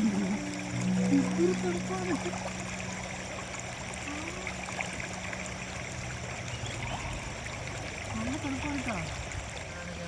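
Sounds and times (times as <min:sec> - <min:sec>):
river flowing: 0:00.0 - 0:10.0.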